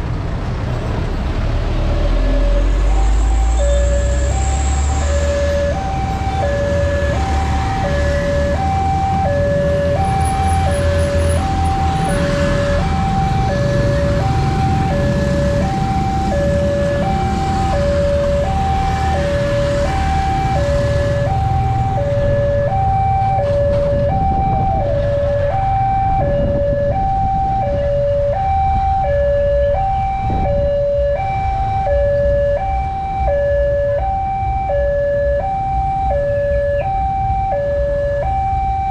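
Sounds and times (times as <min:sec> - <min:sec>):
motorcycle and car traffic: 0:00.0 - 0:38.9
level crossing two-tone alarm: 0:02.2 - 0:38.9.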